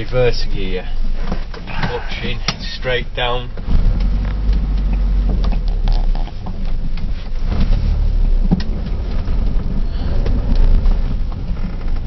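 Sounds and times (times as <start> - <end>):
car engine rumbling in reverse: 1.6 - 12.0.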